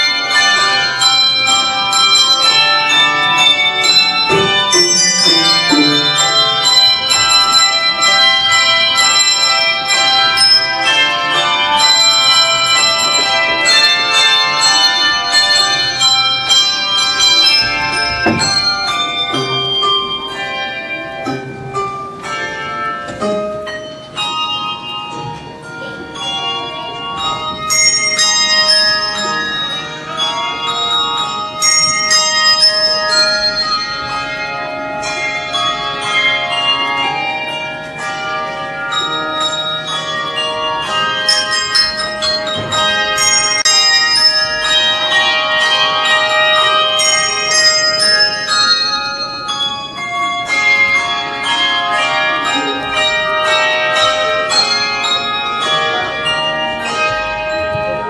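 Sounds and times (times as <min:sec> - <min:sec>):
handbell choir playing: 0:00.0 - 0:58.0.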